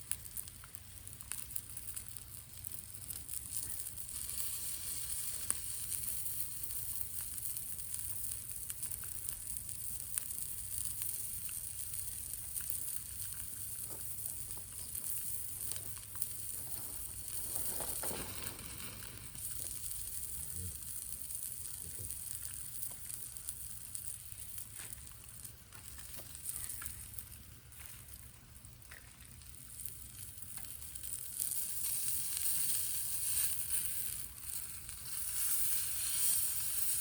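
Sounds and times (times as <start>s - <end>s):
meat sizzling on a grill: 0.0s - 37.0s
wood fire crackling: 0.0s - 37.0s.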